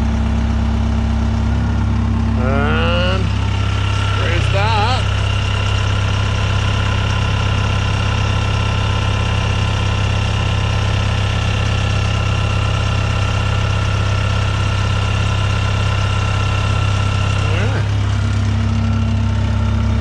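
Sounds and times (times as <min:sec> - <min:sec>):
heavy equipment engine idling: 0:00.0 - 0:20.0.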